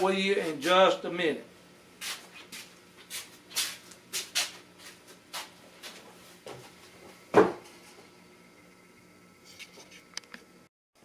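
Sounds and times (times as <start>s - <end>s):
faint steady hum: 0.0s - 10.7s.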